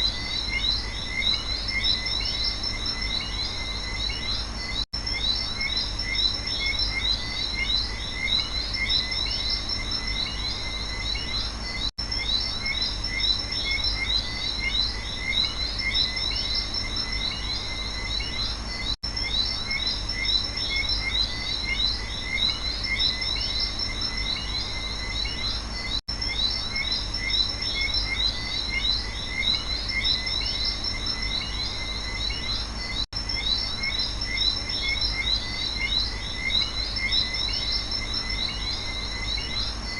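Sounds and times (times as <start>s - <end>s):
frogs chirping: 0.0s - 39.9s
high insect drone: 0.0s - 39.9s.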